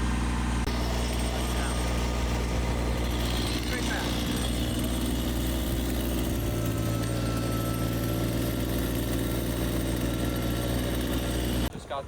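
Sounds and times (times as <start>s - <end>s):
heavy machine engine running: 0.0s - 11.7s.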